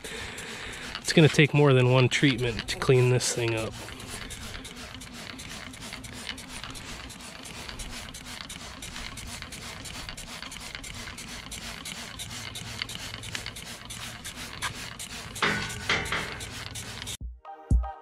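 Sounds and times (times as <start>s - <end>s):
trigger spray bottle squirting: 0.1s - 17.2s.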